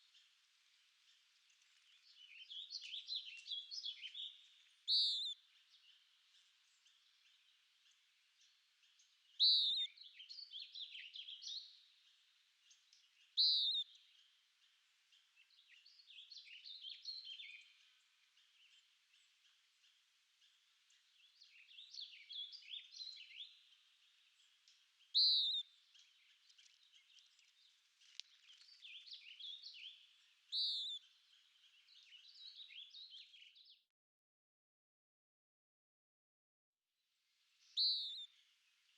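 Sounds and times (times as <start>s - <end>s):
songbird singing: 0.0s - 33.8s, 37.4s - 38.9s.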